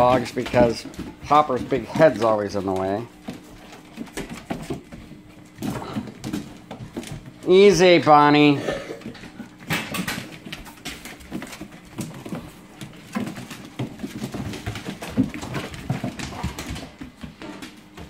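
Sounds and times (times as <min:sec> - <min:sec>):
dogs' bodies scuffling: 0:00.0 - 0:18.0.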